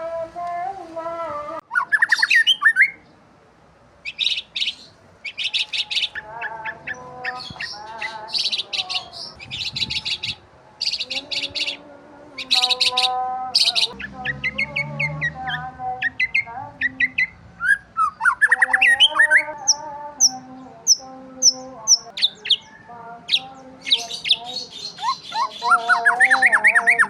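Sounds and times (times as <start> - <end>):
songbirds chirping and trilling: 0.0 - 27.0
low wavering bird call: 1.7 - 3.0, 4.1 - 11.8, 12.4 - 22.8, 23.4 - 27.0.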